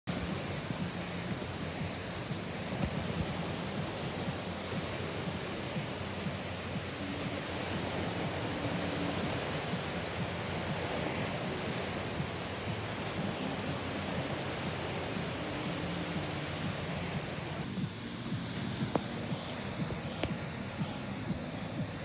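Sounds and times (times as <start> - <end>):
ocean surf rushing: 0.1 - 22.0.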